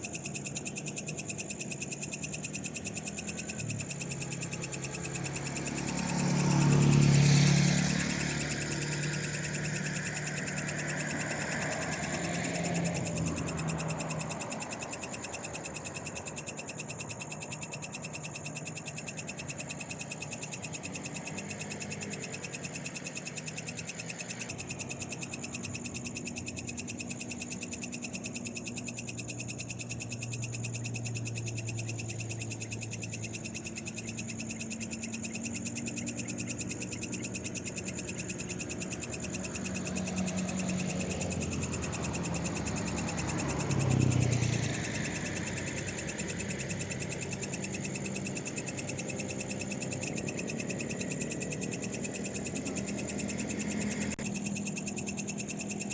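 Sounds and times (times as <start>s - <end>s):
frogs and insects trilling: 0.0s - 55.9s
road traffic engine hum: 0.0s - 55.9s.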